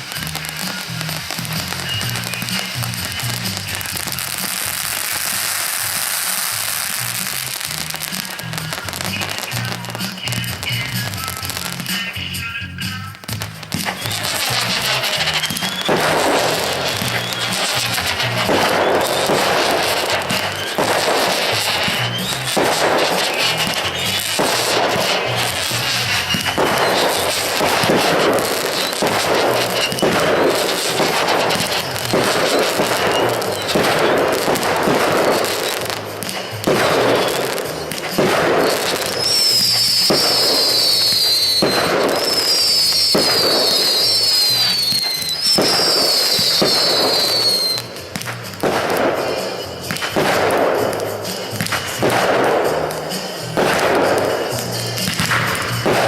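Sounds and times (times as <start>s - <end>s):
background music: 0.0s - 56.0s
fireworks bangs and crackles: 0.0s - 56.0s
high falling firework whistles: 0.0s - 56.0s.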